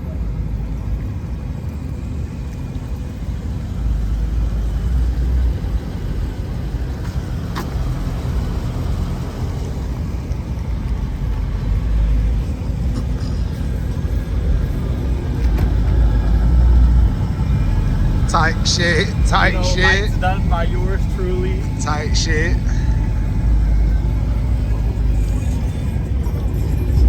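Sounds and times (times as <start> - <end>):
car engines idling: 0.0 - 27.0.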